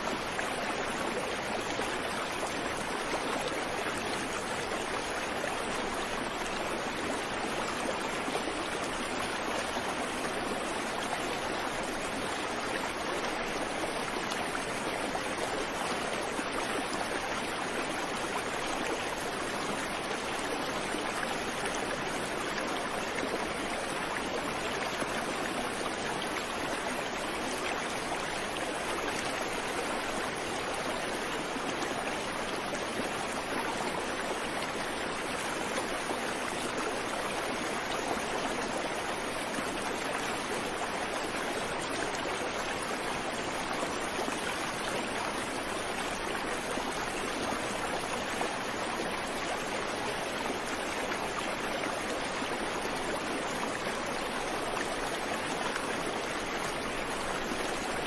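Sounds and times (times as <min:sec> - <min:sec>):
creek water running over stones: 0:00.0 - 0:58.0.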